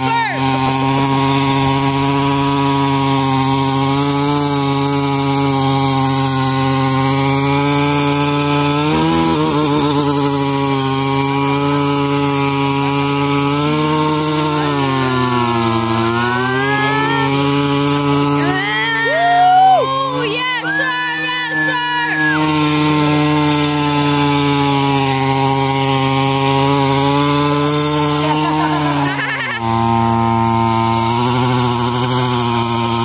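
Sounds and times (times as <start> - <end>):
small engine revving: 0.0 - 33.0
wheels spinning in mud: 0.0 - 33.0.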